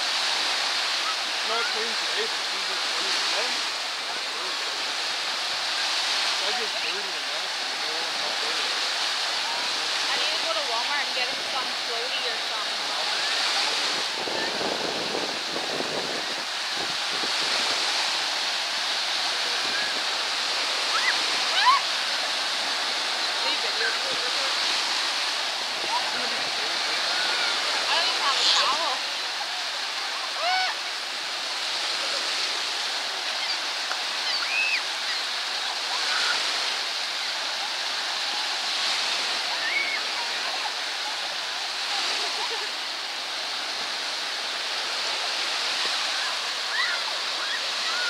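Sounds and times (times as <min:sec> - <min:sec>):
waves washing onto sandy shore: 0:00.0 - 0:48.0.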